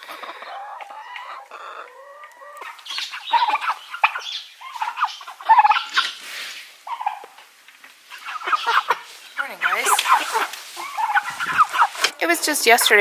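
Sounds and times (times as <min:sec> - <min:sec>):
chickens and turkeys clucking: 0:00.0 - 0:13.0.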